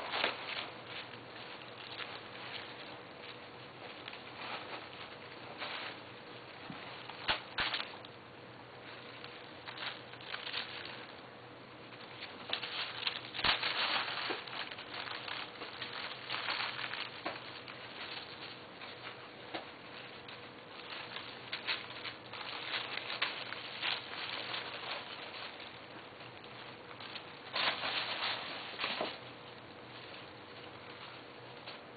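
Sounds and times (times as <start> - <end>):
paper rustling and crinkling: 0.0 - 8.1, 8.8 - 11.2, 11.9 - 31.9.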